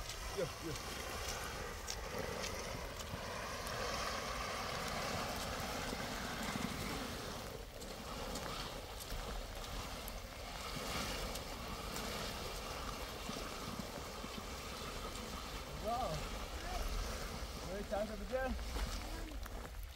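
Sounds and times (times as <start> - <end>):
plastic tarp scraping over gravel: 0.0 - 19.9
rain: 0.0 - 19.9
wind: 0.0 - 19.9.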